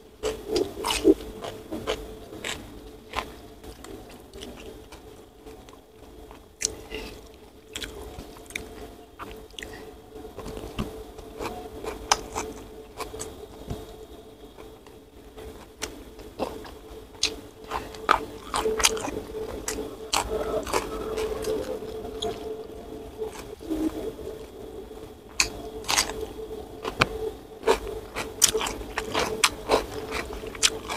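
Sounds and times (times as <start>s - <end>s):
person chewing and crunching: 0.2s - 24.6s, 25.2s - 30.9s.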